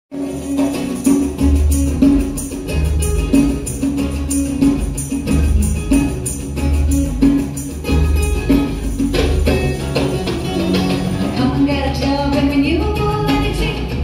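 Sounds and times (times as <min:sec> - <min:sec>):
pulsing bass line: 0:00.1 - 0:14.0
strummed and plucked instruments: 0:00.1 - 0:14.0
bright percussion strikes: 0:00.2 - 0:11.6.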